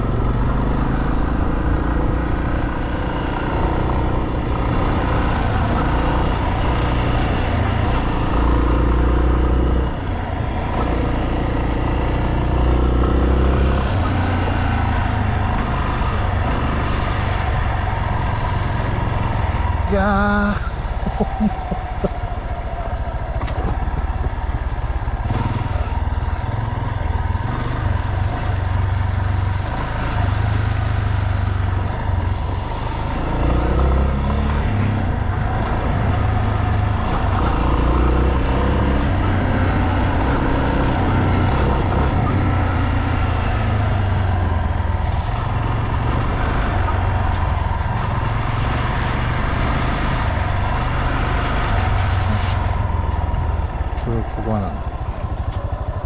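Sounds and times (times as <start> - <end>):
motorcycle engine running and revving: 0.0 - 56.0.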